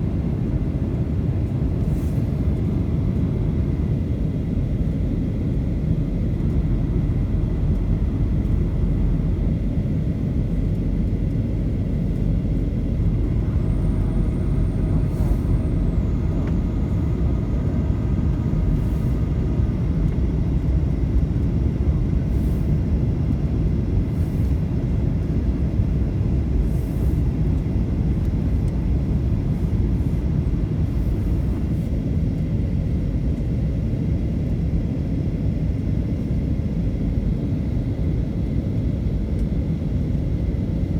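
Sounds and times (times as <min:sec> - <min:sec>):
jet engine rumble: 0:00.0 - 0:40.9.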